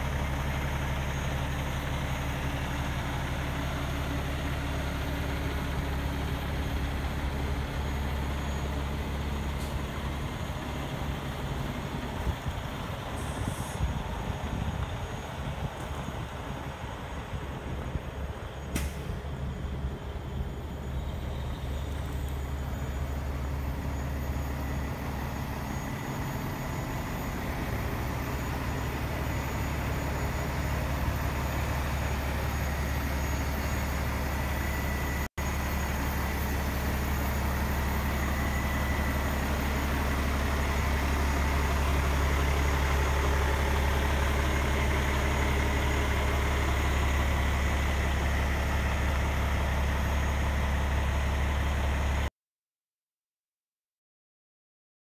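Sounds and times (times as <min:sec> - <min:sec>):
diesel truck engine idling: 0:00.0 - 0:52.3.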